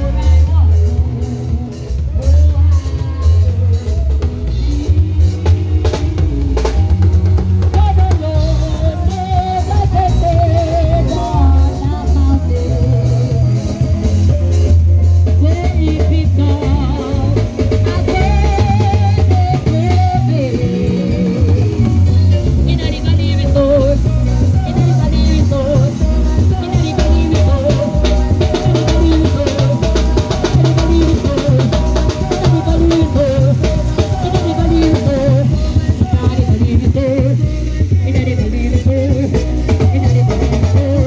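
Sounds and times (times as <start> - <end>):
woman singing into a microphone: 0.0 - 14.4, 15.2 - 41.0
drum kit: 0.0 - 41.0
electric guitar: 0.0 - 41.0
heavy bass line: 0.0 - 41.0.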